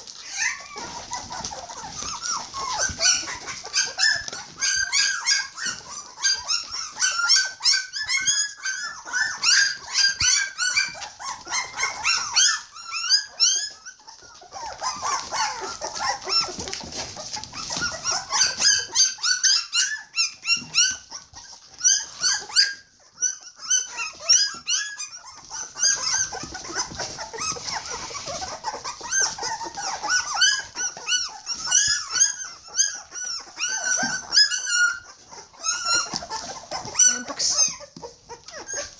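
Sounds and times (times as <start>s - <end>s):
puppies whining and squealing: 0.0s - 38.9s.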